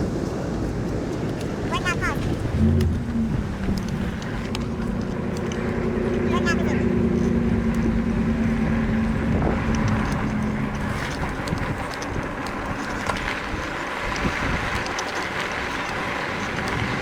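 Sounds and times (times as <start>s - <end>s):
light clicks and rattles: 0.0s - 17.0s
wind on microphone: 0.0s - 17.0s.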